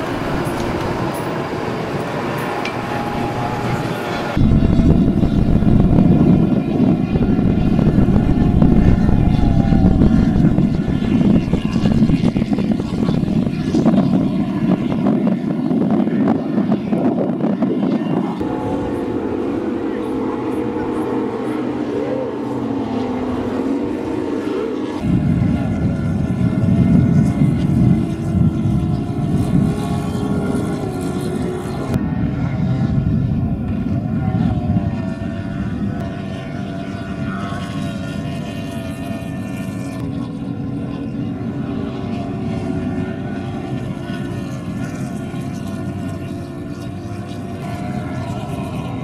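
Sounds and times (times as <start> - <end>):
powerboat engines racing: 0.0 - 49.0.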